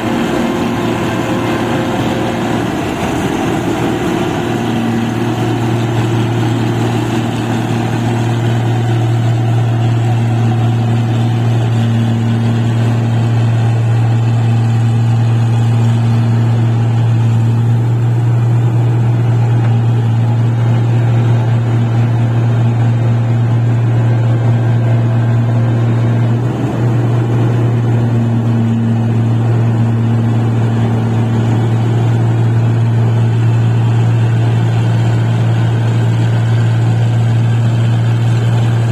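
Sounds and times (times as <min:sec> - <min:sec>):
machine engine droning: 0:00.0 - 0:38.9.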